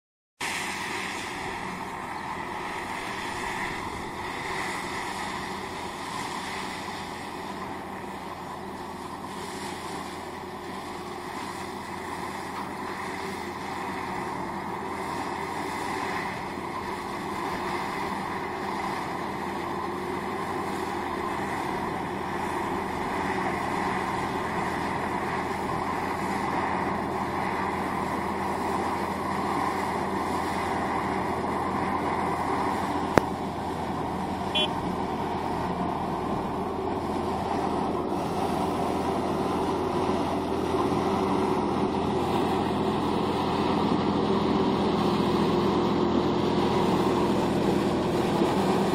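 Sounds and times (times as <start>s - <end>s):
tractor diesel engine under load: 0.4s - 48.9s.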